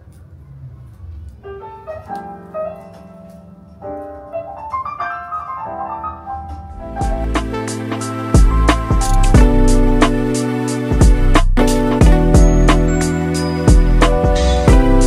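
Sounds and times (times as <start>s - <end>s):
piano music: 1.3s - 15.0s.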